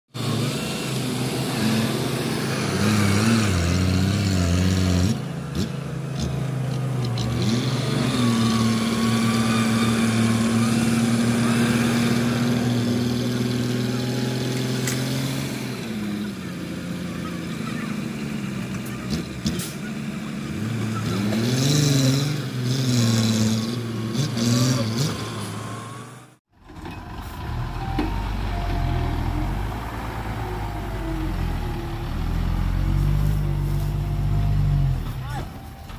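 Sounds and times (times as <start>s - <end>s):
heavy diesel engines revving: 0.1s - 35.9s
lower engine sound: 0.2s - 21.1s, 24.8s - 35.9s.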